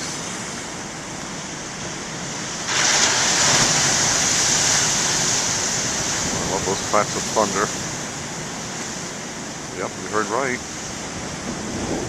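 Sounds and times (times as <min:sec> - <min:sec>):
heavy ocean surf: 0:00.0 - 0:12.0
hiss of rushing white water: 0:00.0 - 0:12.0
wave breaking: 0:00.0 - 0:12.0.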